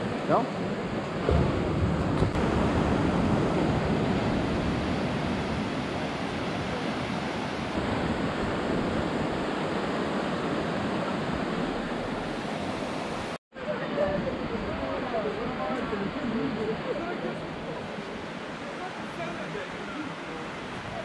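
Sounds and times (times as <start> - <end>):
surf breaking on rocky shore: 0.0 - 21.0.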